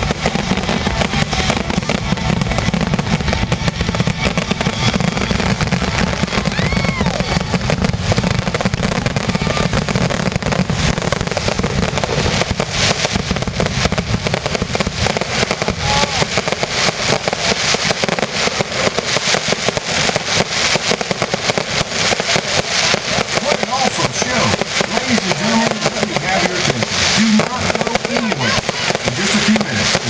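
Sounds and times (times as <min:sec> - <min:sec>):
fireworks crackling and popping: 0:00.0 - 0:30.0.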